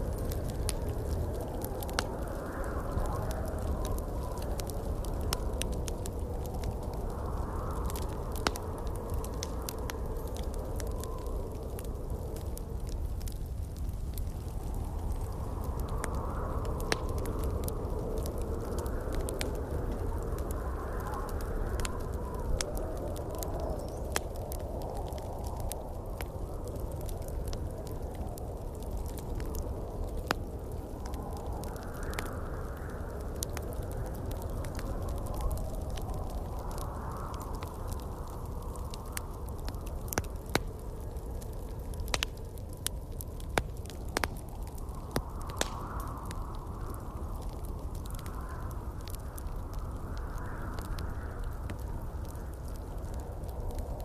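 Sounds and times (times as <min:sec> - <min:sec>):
low rumble of wind: 0:00.0 - 0:54.0
wood fire crackling and popping: 0:00.0 - 0:54.0.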